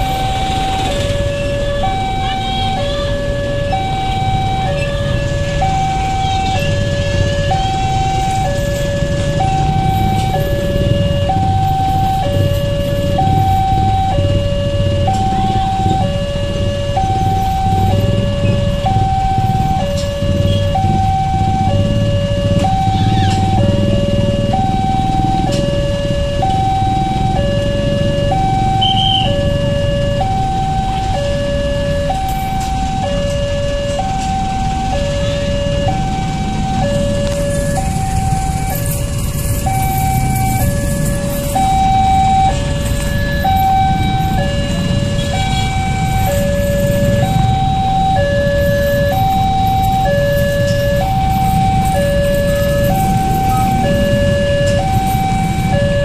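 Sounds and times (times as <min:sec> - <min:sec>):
traffic engines idling: 0:00.0 - 0:56.0
two-tone crossing alarm: 0:00.0 - 0:56.0.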